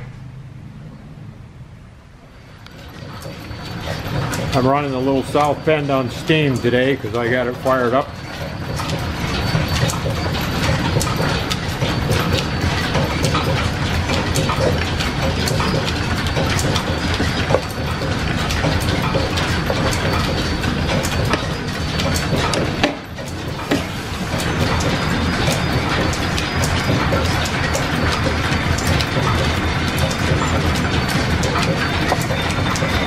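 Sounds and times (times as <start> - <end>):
line shaft mechanical rumble: 0.0 - 33.0
dense clatter of clicks: 2.6 - 33.0.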